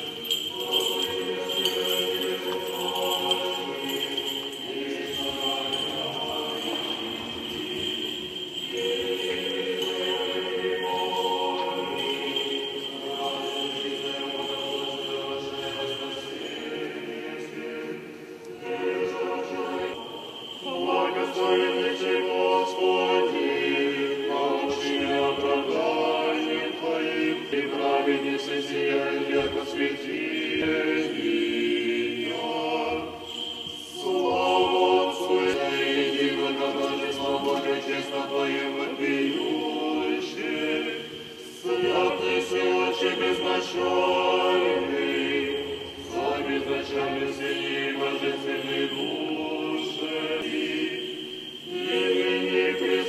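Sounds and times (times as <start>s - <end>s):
choir chanting in held chords: 0.0s - 53.0s.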